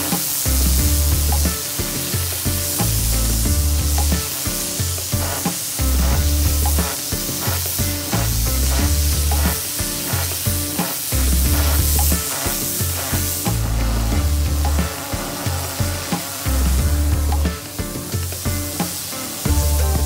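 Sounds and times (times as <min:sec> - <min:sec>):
background music with beat: 0:00.0 - 0:20.0
pressure washer spray hiss: 0:00.0 - 0:20.0.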